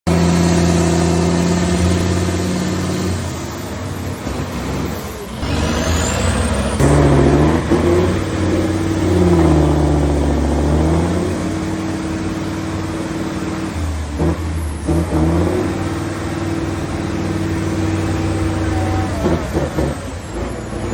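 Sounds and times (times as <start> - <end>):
truck engines revving: 0.0 - 20.9.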